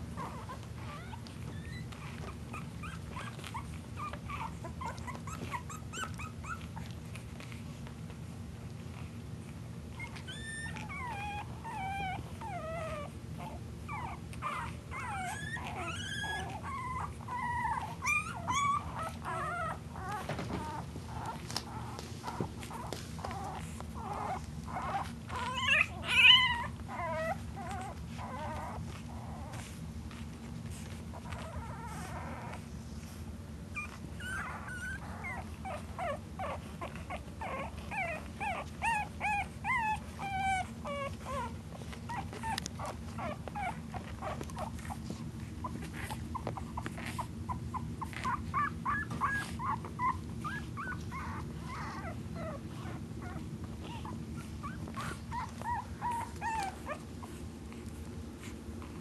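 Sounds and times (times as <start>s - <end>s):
puppies whimpering and squeaking: 0.0s - 59.0s.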